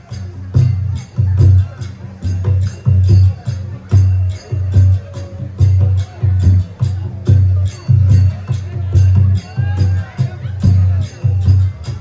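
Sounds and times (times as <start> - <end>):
jingling metallic clash: 0.0 - 12.0
low drum beats: 0.0 - 12.0.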